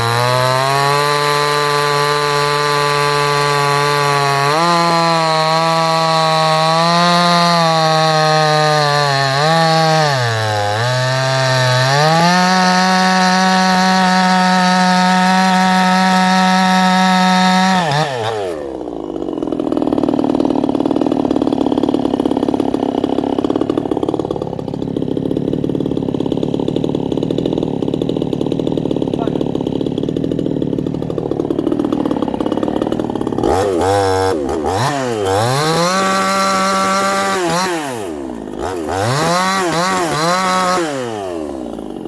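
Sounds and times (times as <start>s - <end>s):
chainsaw revving: 0.0s - 42.0s.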